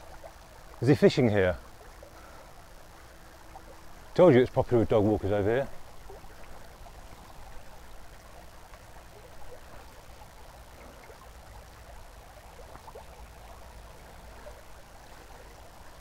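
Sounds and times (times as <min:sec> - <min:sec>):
small river flowing: 0:00.0 - 0:16.0.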